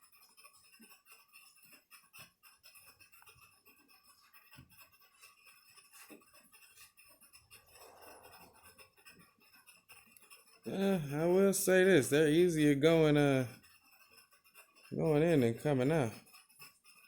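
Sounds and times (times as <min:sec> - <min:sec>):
screwdriver clicking and scratching: 0:00.0 - 0:17.0.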